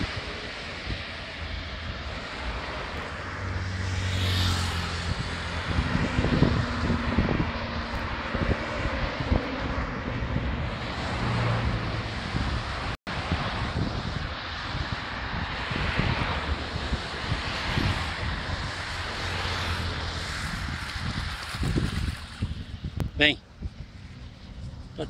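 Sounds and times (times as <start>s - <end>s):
distant engine drone: 0.0s - 25.0s
wind buffeting microphone: 0.0s - 25.0s.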